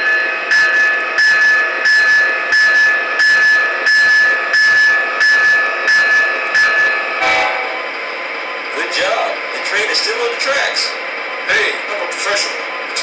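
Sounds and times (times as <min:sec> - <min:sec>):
model train diesel whine: 0:00.0 - 0:13.0.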